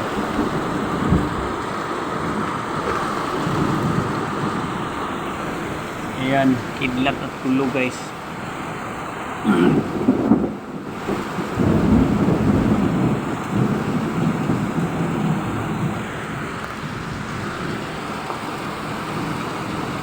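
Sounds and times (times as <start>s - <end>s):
thunder rumbling: 0.0s - 8.3s, 9.5s - 17.9s
heavy rain: 0.0s - 20.0s.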